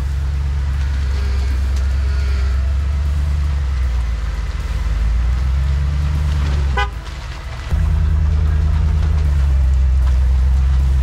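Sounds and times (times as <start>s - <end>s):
off-road vehicle rumbling: 0.0s - 11.0s.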